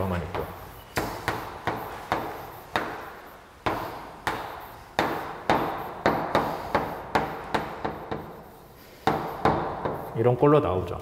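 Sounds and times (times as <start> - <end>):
chalk tapping on a blackboard: 0.0 - 10.2.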